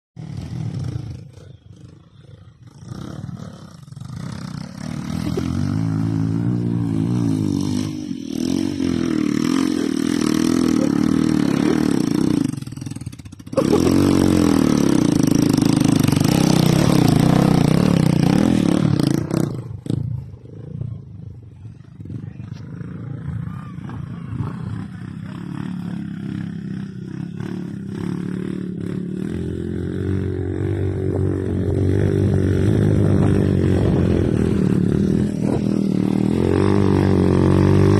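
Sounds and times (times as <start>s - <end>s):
dirt bike engine revving: 0.2s - 21.1s, 22.0s - 37.9s
distant dirt bikes revving: 0.2s - 37.9s.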